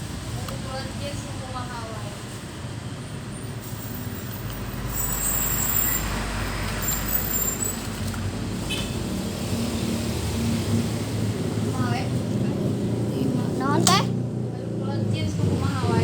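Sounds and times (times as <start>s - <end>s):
vehicle passing rumble: 0.0s - 16.0s.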